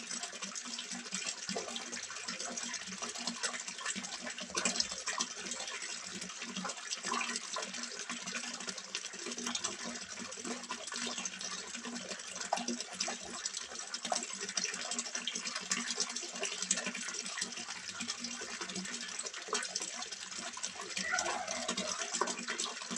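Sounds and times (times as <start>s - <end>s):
water splashing into pond: 0.3s - 22.9s.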